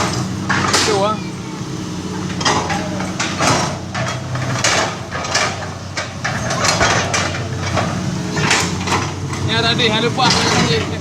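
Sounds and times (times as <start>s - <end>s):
diesel engine running: 0.0s - 11.0s
knocks and clanks: 0.0s - 11.0s.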